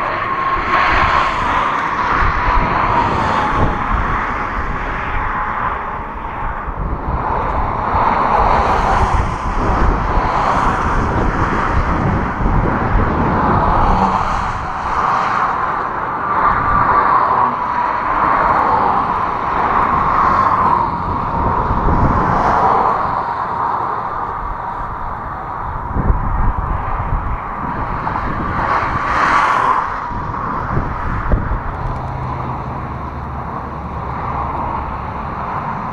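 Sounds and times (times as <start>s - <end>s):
road traffic passing: 0.0s - 35.9s
wind rumble on microphone: 0.0s - 35.9s.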